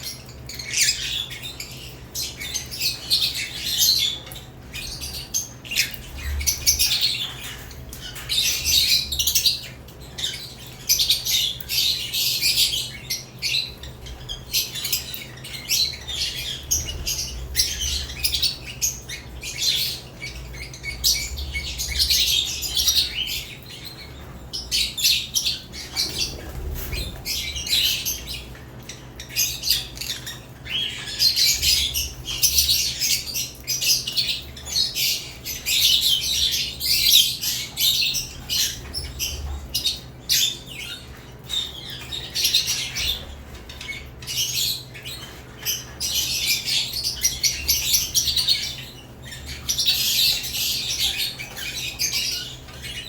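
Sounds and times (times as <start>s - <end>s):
lovebirds chirping: 0.0s - 53.0s.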